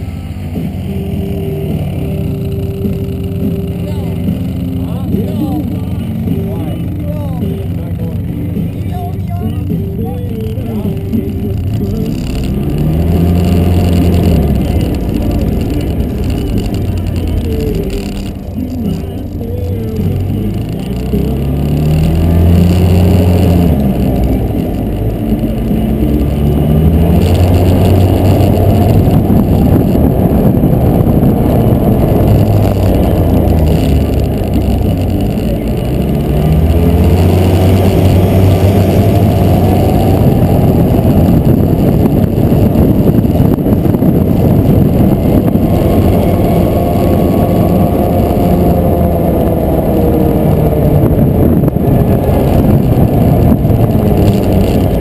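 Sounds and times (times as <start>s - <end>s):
utility vehicle engine running: 0.0s - 55.0s
loud rushing noise: 10.4s - 55.0s.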